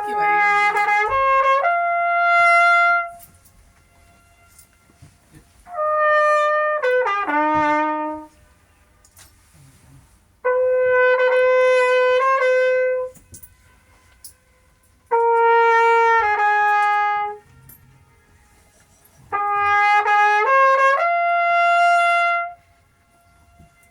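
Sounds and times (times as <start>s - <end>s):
brass horn playing phrases: 0.0s - 9.0s, 9.7s - 23.9s.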